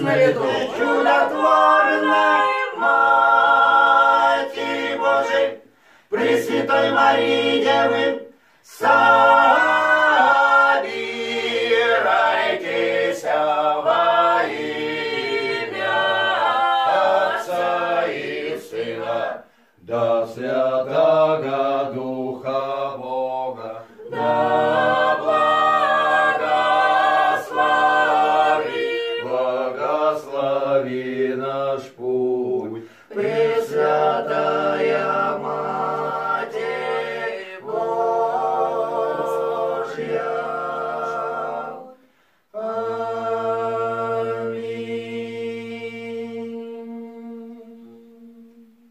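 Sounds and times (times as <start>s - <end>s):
group singing a cappella: 0.0s - 48.9s.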